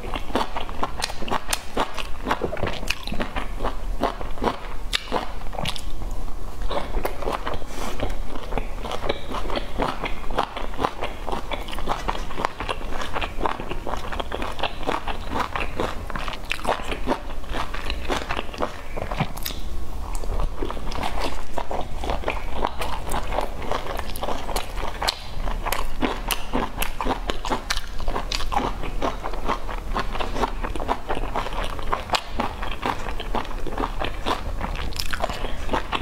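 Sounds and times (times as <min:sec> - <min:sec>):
wet chewing sounds: 0:00.0 - 0:06.0, 0:06.6 - 0:36.0.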